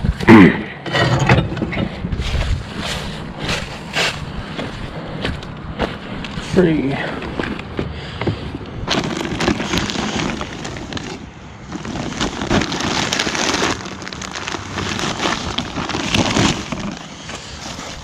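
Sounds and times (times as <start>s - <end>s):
items rustling and crackling: 1.0s - 18.0s.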